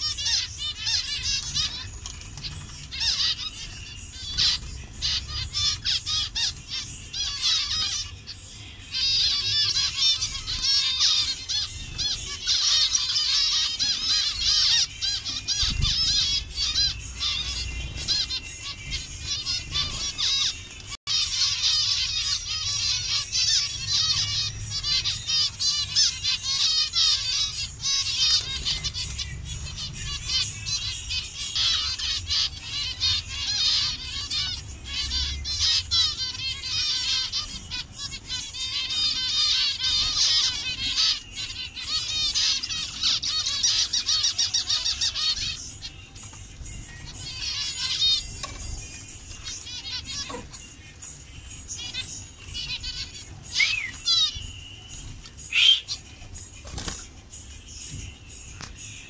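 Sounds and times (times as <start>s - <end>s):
finches calling: 0.0s - 57.1s.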